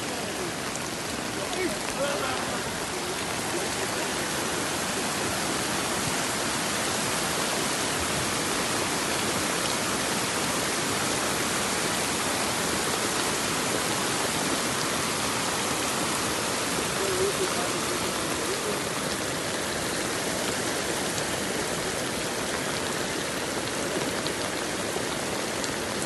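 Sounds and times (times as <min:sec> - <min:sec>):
heavy rain pouring: 0:00.0 - 0:26.0
running water: 0:00.0 - 0:26.0.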